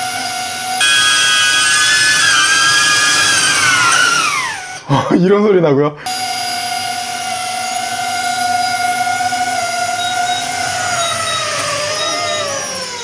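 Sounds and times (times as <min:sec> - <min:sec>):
drone propellers whining: 0:00.1 - 0:04.9, 0:06.1 - 0:13.0.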